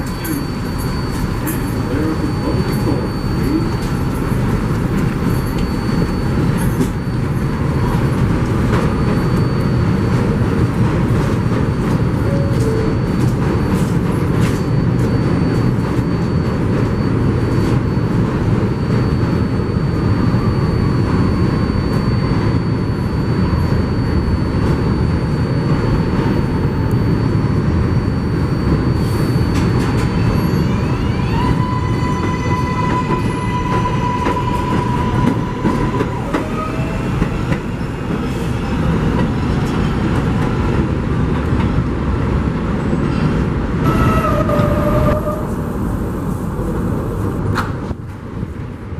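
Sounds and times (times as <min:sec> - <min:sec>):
subway train wheels rumbling: 0:00.0 - 0:48.9.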